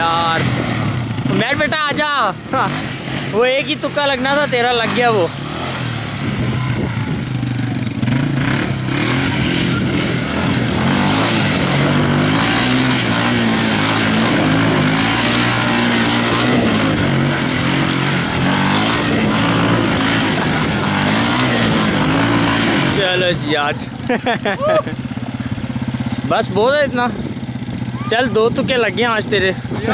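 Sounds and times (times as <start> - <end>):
quad engine revving: 0.0 - 29.9.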